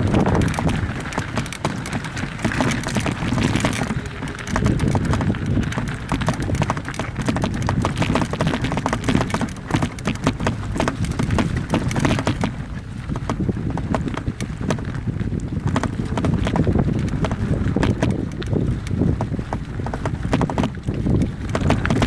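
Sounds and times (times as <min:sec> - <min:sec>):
mountain bike rattling on rocks: 0:00.0 - 0:22.0
wind on microphone: 0:00.0 - 0:22.0.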